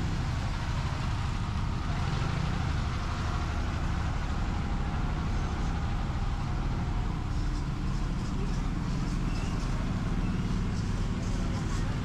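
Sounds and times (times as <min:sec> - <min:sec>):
busy street noise: 0:00.0 - 0:12.0
vehicle engines rumbling: 0:00.0 - 0:12.0.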